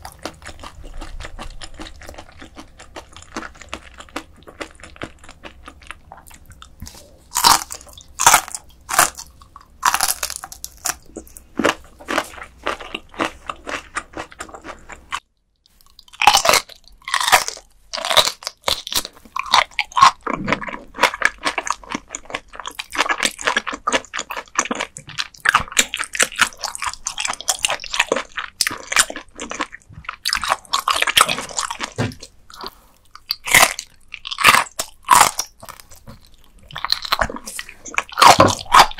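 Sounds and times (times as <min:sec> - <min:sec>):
crunching and chewing raw fish: 0:00.0 - 0:38.9.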